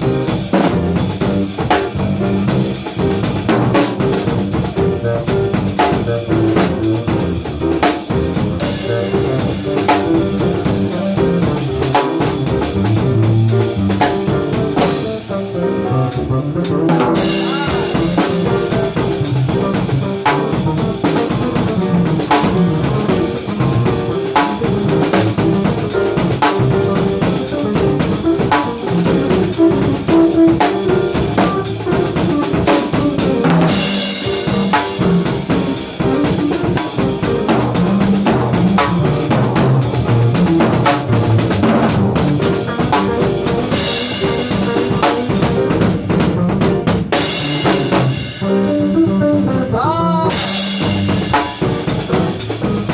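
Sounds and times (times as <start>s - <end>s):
funky drum and bass jam: 0.0s - 52.9s.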